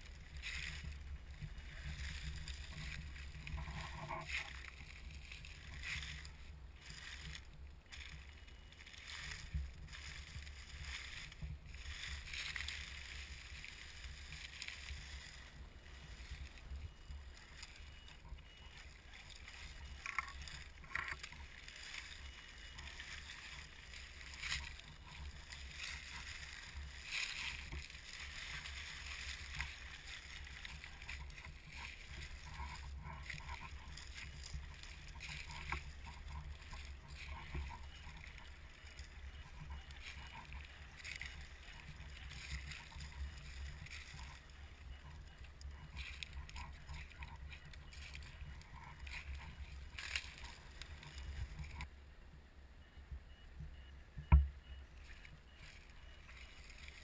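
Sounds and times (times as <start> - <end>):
rc car electric drivetrain: 0.0 - 51.9
tyres crackling through leaves: 0.0 - 52.0, 53.6 - 57.0
low microphone rumble: 0.0 - 53.9.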